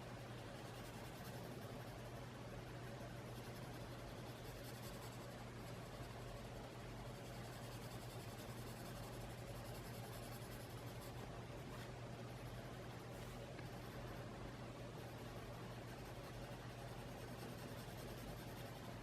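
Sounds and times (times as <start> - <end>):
low electrical hum: 0.0 - 19.0
colored pencil scratching on paper: 0.3 - 19.0.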